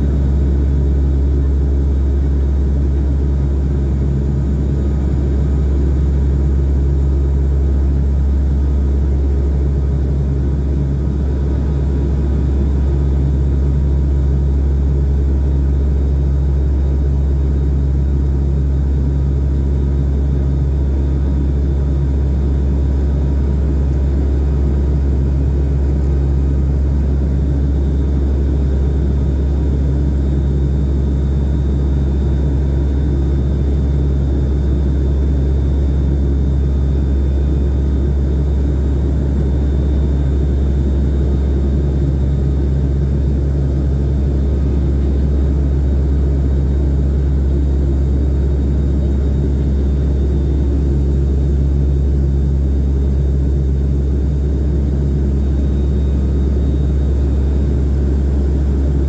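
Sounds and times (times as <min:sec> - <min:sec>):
propeller engines droning: 0:00.0 - 0:59.0.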